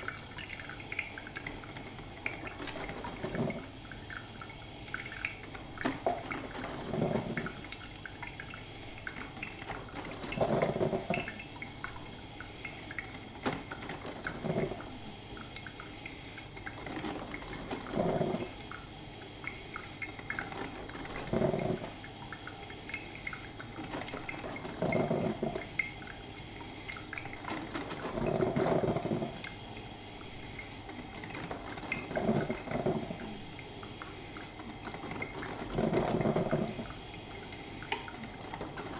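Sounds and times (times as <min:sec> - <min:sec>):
coffee machine hissing: 0:00.0 - 0:38.9
hot water gurgling: 0:00.0 - 0:38.9.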